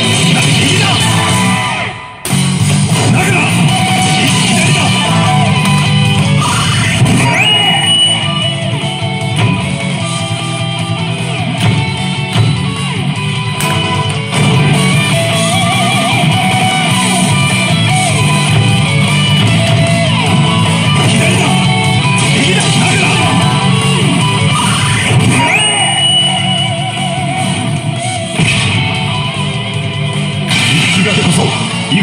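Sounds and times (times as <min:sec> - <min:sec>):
rock music with electric guitar: 0:00.0 - 0:32.0.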